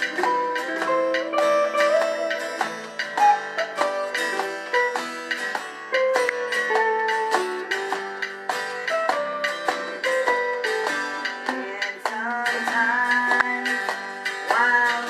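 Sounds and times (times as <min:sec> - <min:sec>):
acoustic guitar strumming chords: 0:00.0 - 0:15.0
plucked string melody: 0:00.0 - 0:15.0.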